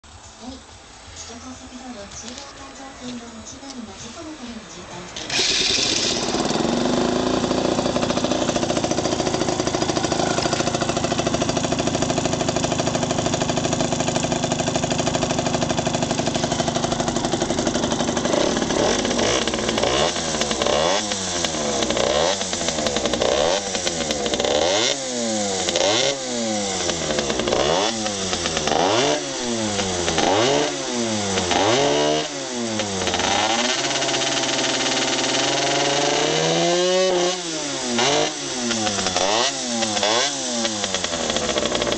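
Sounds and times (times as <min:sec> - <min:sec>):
two-stroke engine idling and revving: 0:05.0 - 0:41.9.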